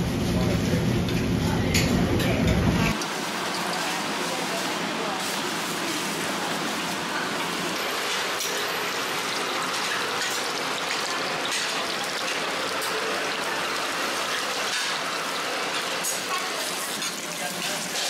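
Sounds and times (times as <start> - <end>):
pancakes sizzling in hot oil: 3.0 - 18.0.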